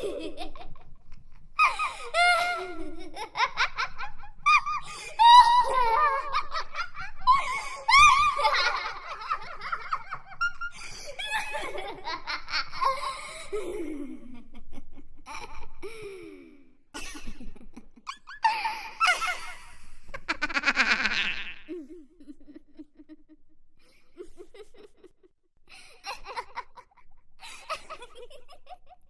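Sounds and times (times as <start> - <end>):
girls giggling: 0.0 - 29.0.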